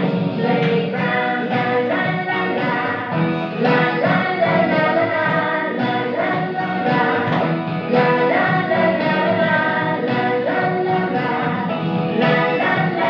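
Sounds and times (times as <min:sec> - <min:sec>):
pop song with vocals: 0:00.0 - 0:13.0.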